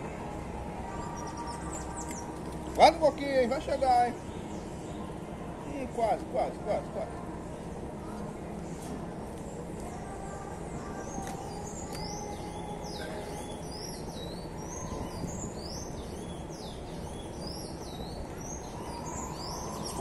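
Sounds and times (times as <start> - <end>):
low background noise: 0.0 - 20.0
small birds chirping: 0.8 - 8.8, 9.4 - 20.0.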